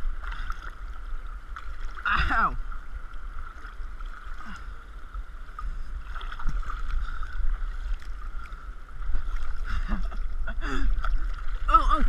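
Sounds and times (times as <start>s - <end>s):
water buffeting microphone: 0.0s - 12.0s
water rushing and splashing: 0.0s - 12.0s.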